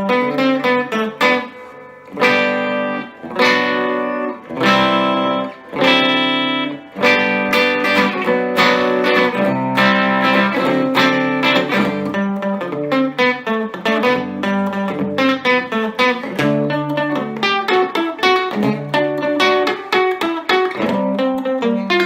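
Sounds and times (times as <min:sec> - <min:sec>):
electric guitar strumming chords: 0:00.0 - 0:22.0.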